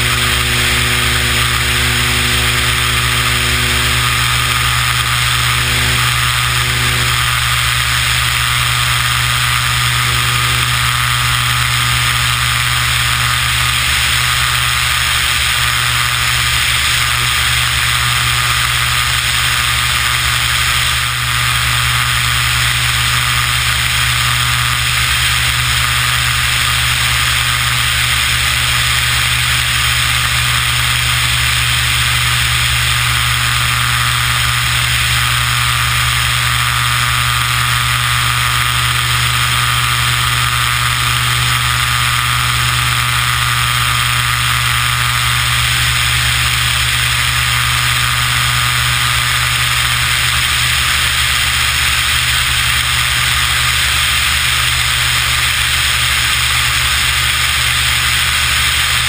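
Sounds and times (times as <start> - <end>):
propeller plane engine: 0.0 - 59.0.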